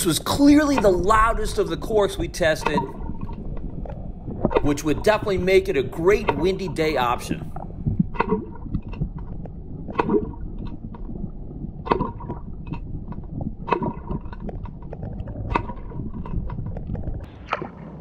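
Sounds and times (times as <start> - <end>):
cork popping and splashing underwater: 0.2 - 18.0
small clicks underwater: 0.5 - 17.9.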